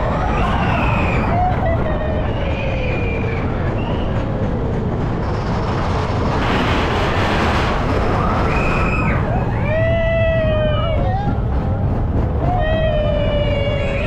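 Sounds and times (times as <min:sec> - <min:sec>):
roller coaster wheels rumbling: 0:00.0 - 0:14.0
rushing air: 0:00.0 - 0:14.0.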